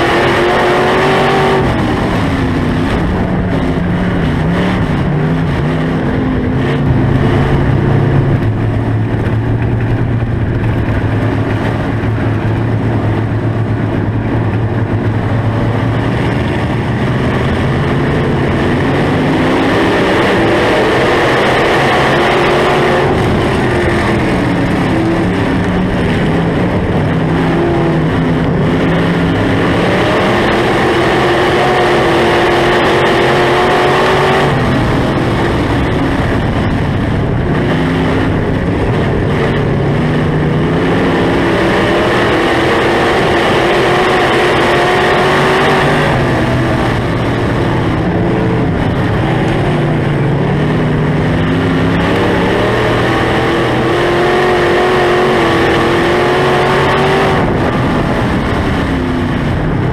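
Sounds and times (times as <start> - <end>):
constant rush of noise: 0.0 - 59.9
race car engine revving: 0.0 - 59.9.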